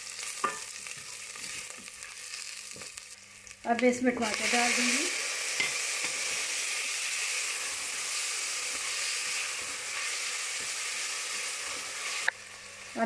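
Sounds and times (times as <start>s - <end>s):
tomato sizzling in oil: 0.0s - 13.0s.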